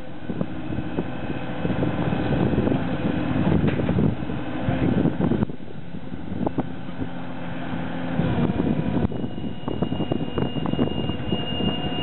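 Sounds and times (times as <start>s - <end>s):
boat engine running: 0.0s - 12.0s
high steady whine: 0.0s - 12.0s.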